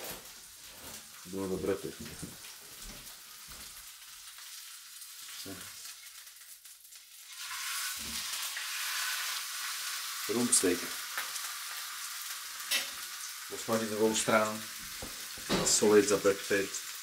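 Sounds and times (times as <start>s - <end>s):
frying pan sizzling: 0.0s - 17.0s.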